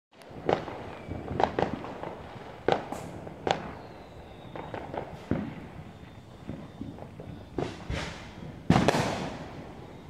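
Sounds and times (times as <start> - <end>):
fireworks bangs and pops: 0.2 - 10.0.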